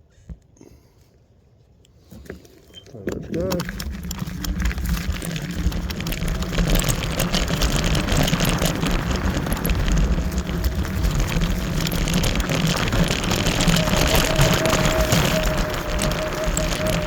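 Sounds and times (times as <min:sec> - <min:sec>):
crackles: 0:02.7 - 0:17.0
tyre rumble: 0:03.2 - 0:17.0
wind buffeting microphone: 0:03.3 - 0:17.0.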